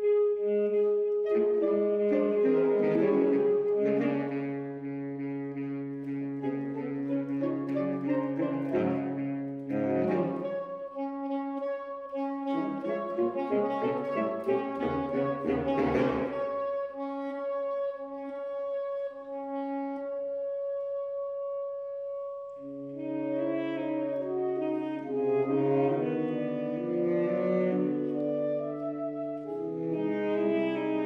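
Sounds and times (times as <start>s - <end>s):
saxophone quartet playing: 0.0s - 31.0s.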